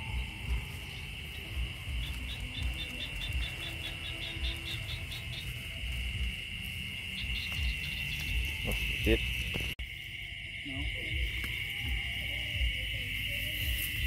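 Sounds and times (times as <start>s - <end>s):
crickets chirring: 0.0s - 14.0s
fast pulsed chirping: 0.0s - 14.0s.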